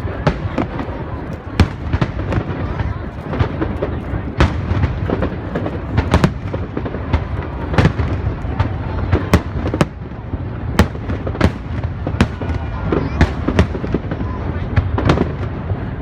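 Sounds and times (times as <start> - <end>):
distant fireworks rumble: 0.0 - 16.0
fireworks bangs and cracks: 0.0 - 16.0.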